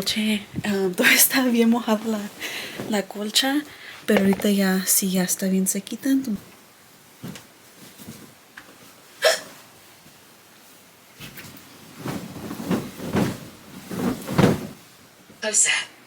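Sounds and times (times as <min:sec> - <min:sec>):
bedding rustling and flapping: 0:00.0 - 0:15.4.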